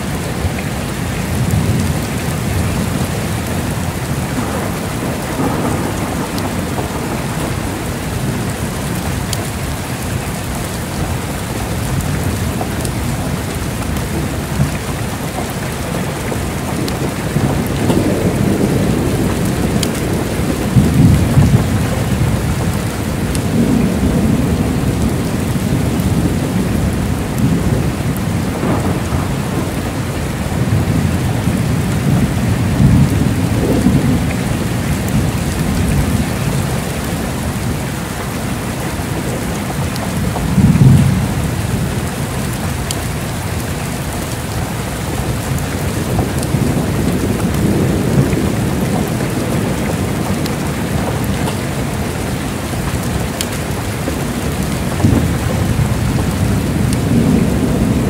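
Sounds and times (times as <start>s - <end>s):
heavy rain pouring: 0.0s - 58.0s
low rolling thunder: 0.0s - 58.0s.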